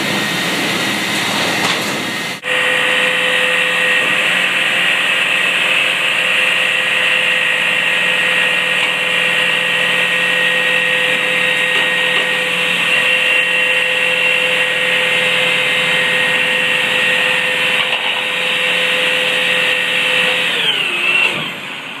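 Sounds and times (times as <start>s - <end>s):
truck engine revving: 0.0s - 21.8s
high-pitched hydraulic whine: 0.0s - 22.0s.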